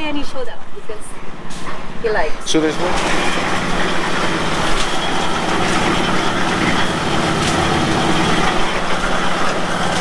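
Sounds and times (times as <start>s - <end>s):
construction machinery engine running: 0.0s - 10.0s.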